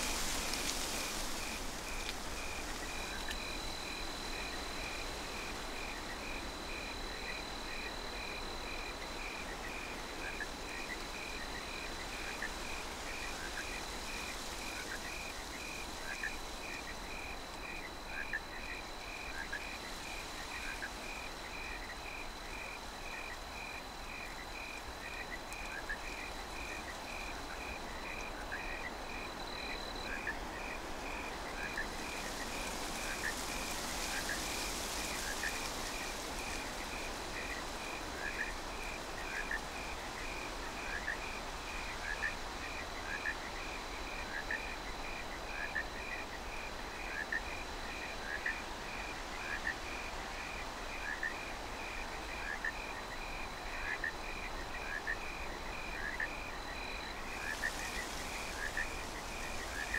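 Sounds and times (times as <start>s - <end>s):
crickets chirping: 0.0s - 59.9s
soft hiss of breeze: 0.0s - 59.9s.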